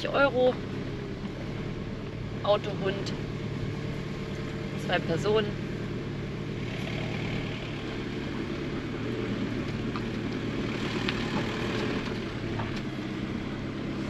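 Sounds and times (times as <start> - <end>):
road noise: 0.0 - 14.0
van engine running: 0.0 - 14.0.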